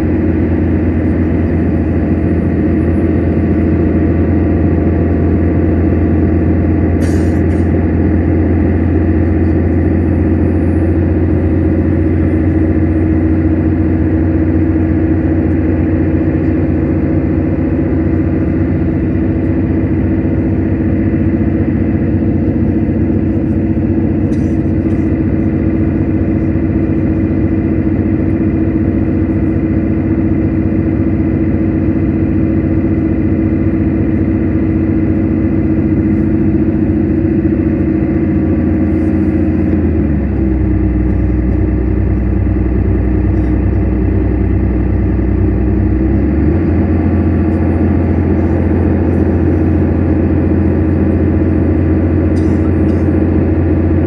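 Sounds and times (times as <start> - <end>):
diesel bus engine drone: 0.0 - 54.0
road and tyre noise: 0.0 - 54.0.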